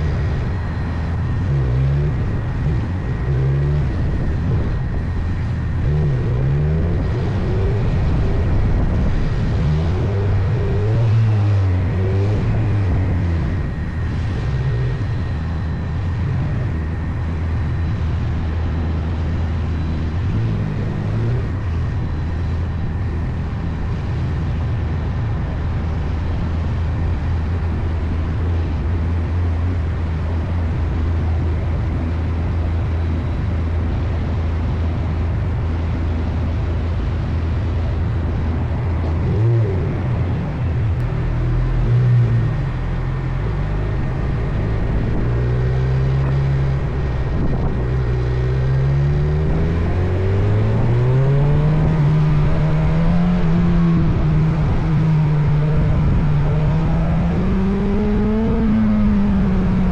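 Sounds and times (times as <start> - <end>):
motorcycle engine while riding: 0.0 - 59.9.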